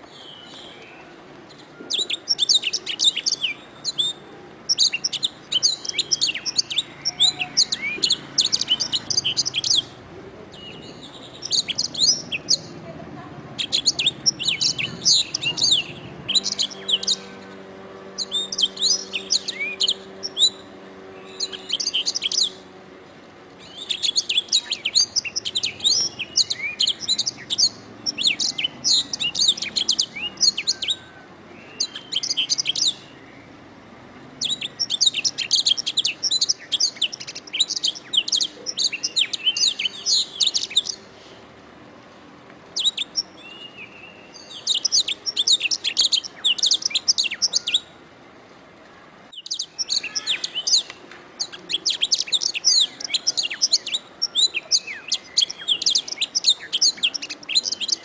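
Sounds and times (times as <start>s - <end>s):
canary singing trills: 0.0s - 33.7s, 34.3s - 41.2s, 42.7s - 48.0s, 49.3s - 58.0s.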